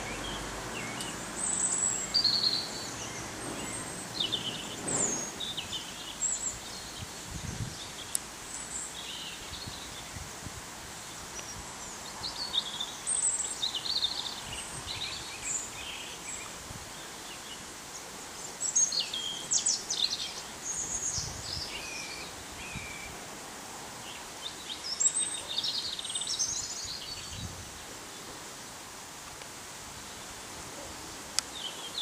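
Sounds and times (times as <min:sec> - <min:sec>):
outdoor hiss: 0:00.0 - 0:32.0
songbirds chirping and trilling: 0:00.0 - 0:32.0.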